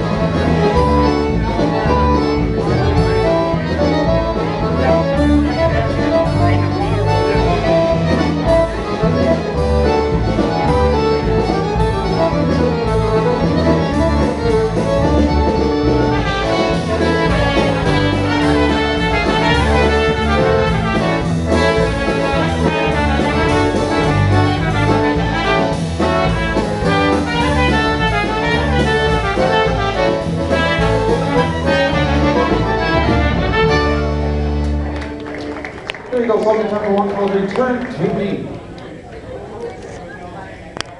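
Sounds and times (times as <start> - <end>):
horns carrying the tune: 0.0 - 38.4
polka band playing: 0.0 - 38.8.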